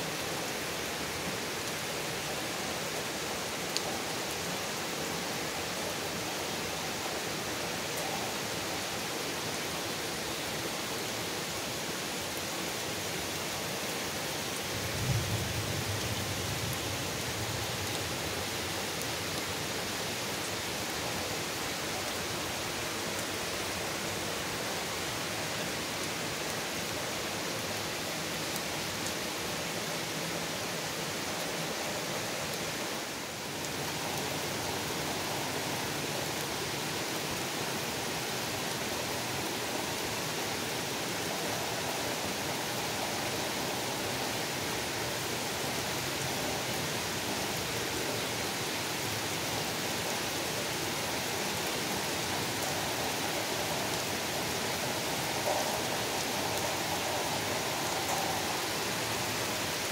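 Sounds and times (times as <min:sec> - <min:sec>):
heavy rain falling on trees: 0:00.0 - 0:59.9.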